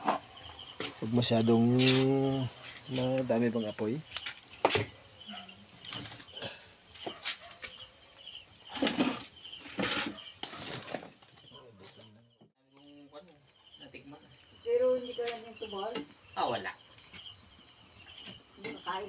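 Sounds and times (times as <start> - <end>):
crickets chirping: 0.0 - 19.0
wood fire crackling: 0.0 - 19.0.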